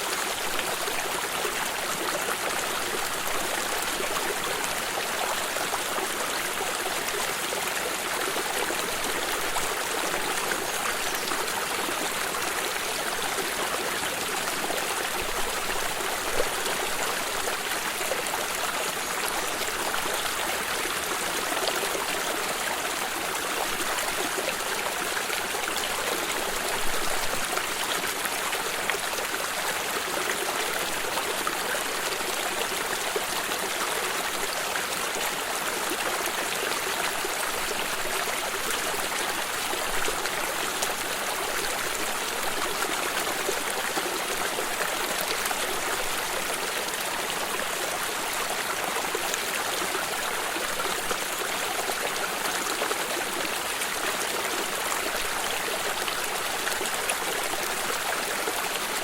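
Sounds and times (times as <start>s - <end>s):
stream trickling over stones: 0.0s - 59.0s.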